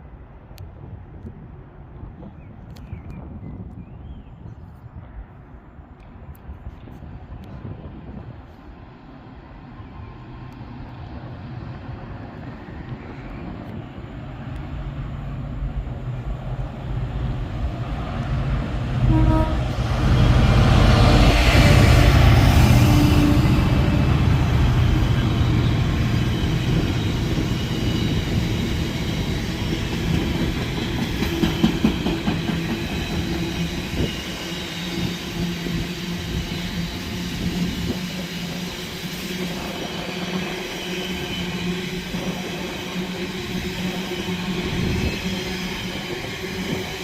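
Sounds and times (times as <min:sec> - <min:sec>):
train rumbling on tracks: 0:00.0 - 0:47.0.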